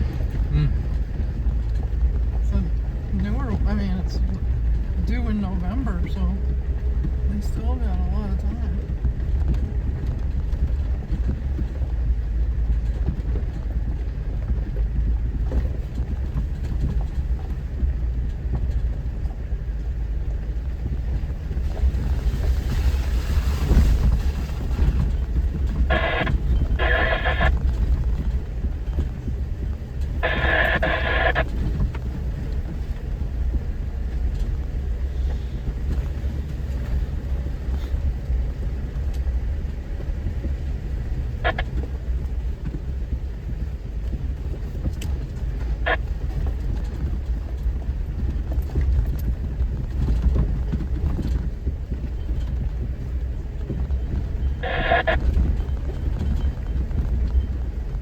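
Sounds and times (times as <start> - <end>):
off-road vehicle engine rumbling: 0.0 - 58.0.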